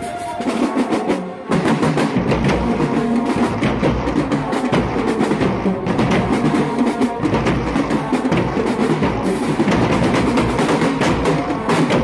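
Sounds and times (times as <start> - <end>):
marching band playing: 0.0 - 12.0
marching drums beating: 0.0 - 12.0.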